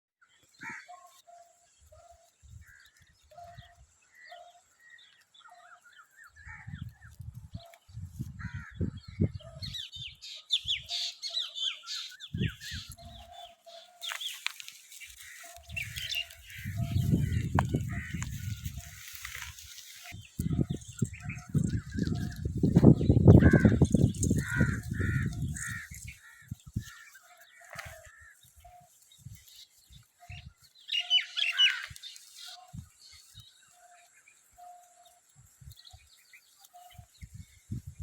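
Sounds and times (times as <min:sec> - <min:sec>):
birds chirping: 0:00.2 - 0:38.0.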